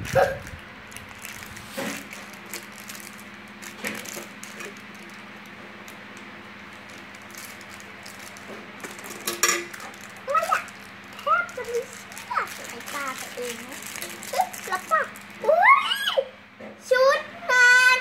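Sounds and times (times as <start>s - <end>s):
plastic wrapper crinkling: 0.0s - 15.5s.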